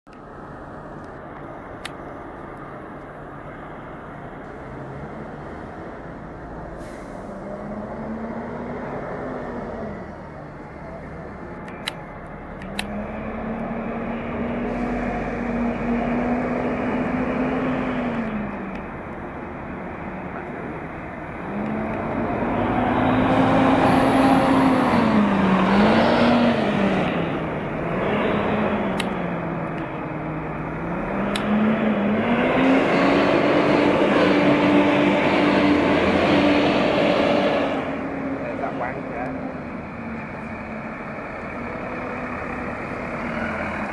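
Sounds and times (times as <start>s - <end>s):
bus engine drone and whine: 0.1s - 43.9s.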